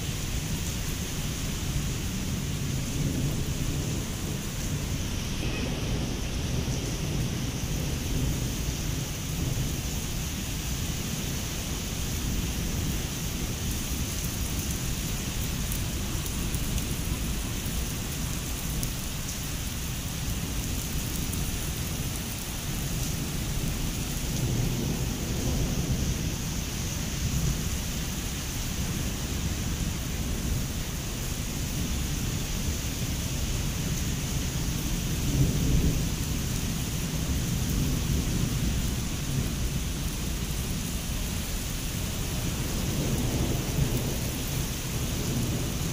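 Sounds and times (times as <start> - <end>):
heavy rain on leaves and paving: 0.0 - 45.9.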